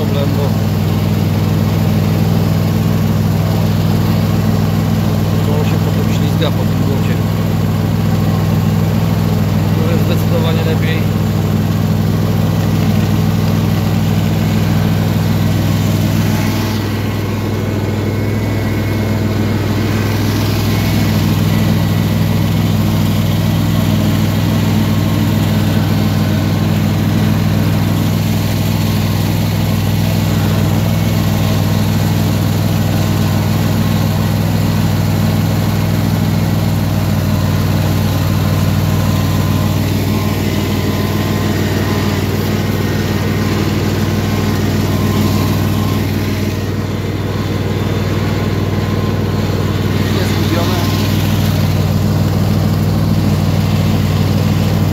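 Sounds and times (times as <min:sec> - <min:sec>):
lawn tractor engine running: 0:00.0 - 0:54.9.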